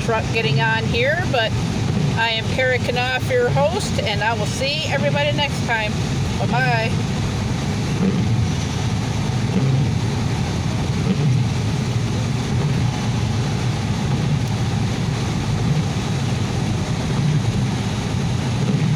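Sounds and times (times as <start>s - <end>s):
car road noise on wet highway: 0.0s - 18.9s.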